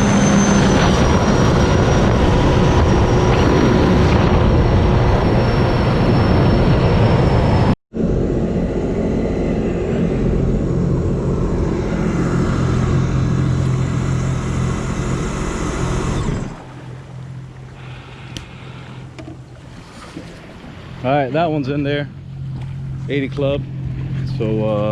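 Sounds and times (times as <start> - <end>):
jet ski engine running: 0.0 - 24.9
wind and water noise: 0.0 - 24.9.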